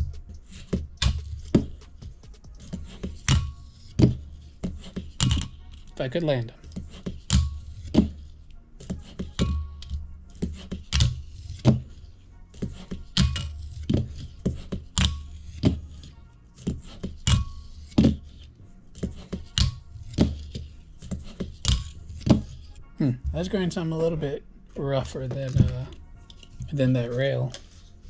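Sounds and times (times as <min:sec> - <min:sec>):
music: 0:00.0 - 0:28.0.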